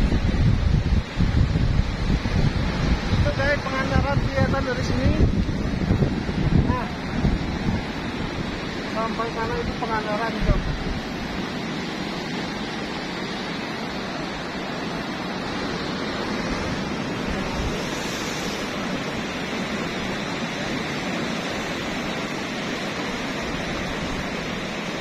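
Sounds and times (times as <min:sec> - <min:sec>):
ocean surf rushing on beach: 0:00.0 - 0:25.0.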